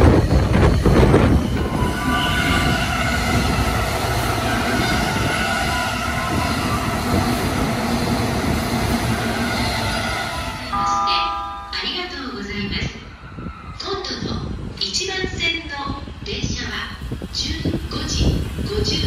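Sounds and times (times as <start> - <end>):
train whine: 0.0 - 16.2
electric train rolling rumble: 0.0 - 19.0.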